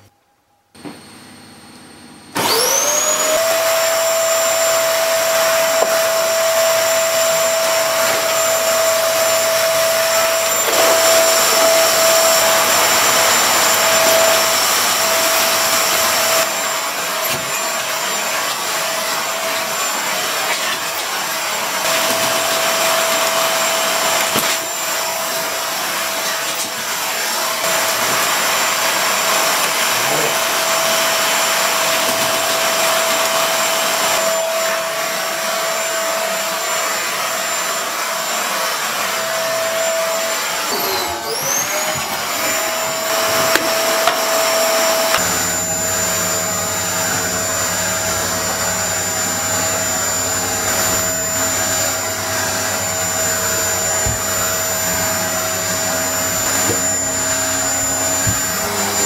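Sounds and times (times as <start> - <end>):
vacuum cleaner running: 0.8 - 59.0.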